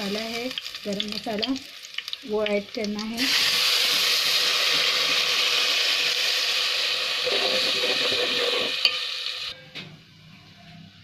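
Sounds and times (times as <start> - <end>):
onions sizzling in hot oil: 0.0 - 9.5.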